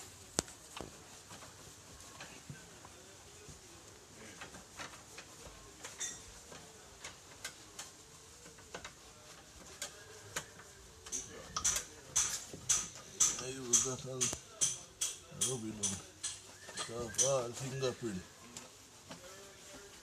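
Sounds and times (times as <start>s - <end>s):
cloth wiping strokes: 0.0s - 14.2s, 15.4s - 20.0s.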